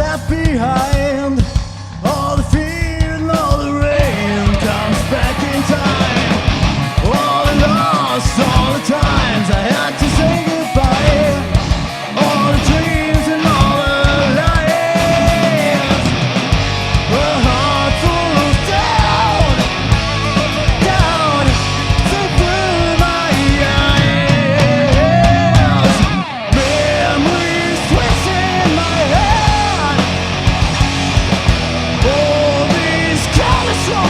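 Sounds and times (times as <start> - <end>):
busy drum beat: 0.0 - 34.0
loud guitars: 0.0 - 34.0.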